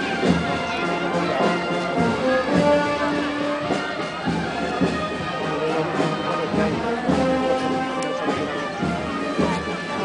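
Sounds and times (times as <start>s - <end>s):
brass band playing a march: 0.0s - 10.0s.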